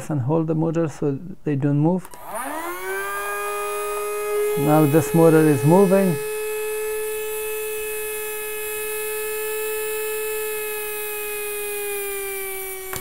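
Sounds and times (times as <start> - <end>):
electric motor whine: 2.1 - 13.0.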